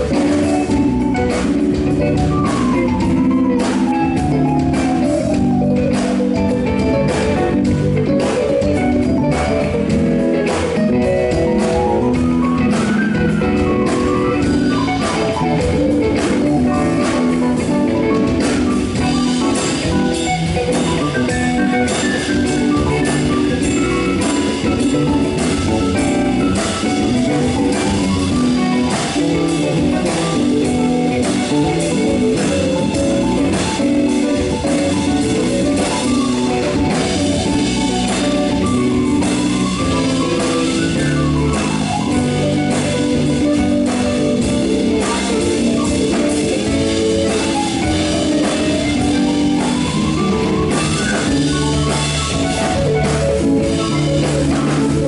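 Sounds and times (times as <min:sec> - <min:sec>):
drum kit: 0:00.0 - 0:55.0
electric guitar: 0:00.0 - 0:55.0
keyboard: 0:00.0 - 0:55.0.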